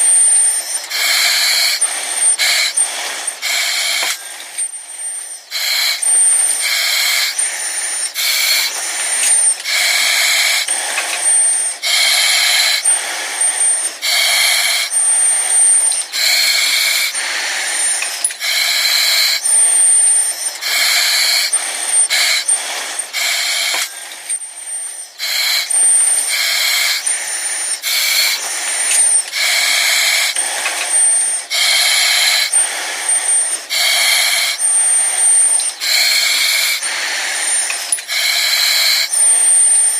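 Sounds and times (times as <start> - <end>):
breathing through oxygen mask: 0.0 - 39.9.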